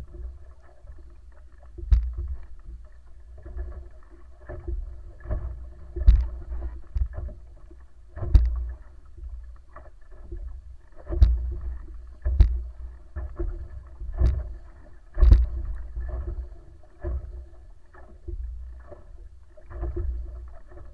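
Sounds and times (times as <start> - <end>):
faint steady hum: 0.0 - 20.9
water rushing along a hull: 0.0 - 20.9.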